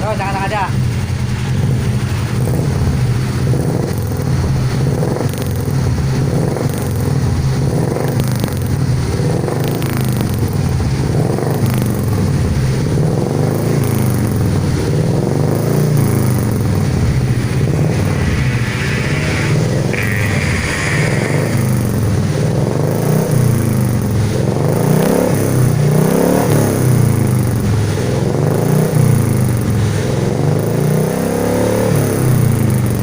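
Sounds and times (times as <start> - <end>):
motorcycle engine exhaust note: 0.0 - 33.0.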